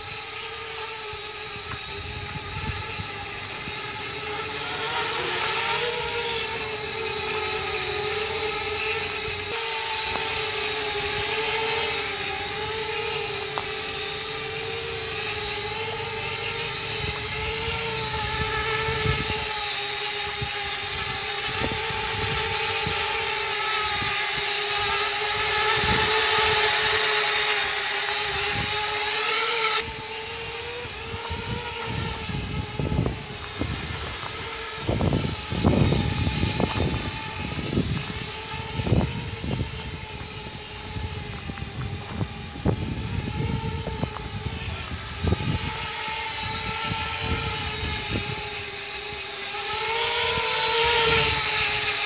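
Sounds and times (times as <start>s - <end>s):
drone propellers buzzing: 0.0s - 52.0s.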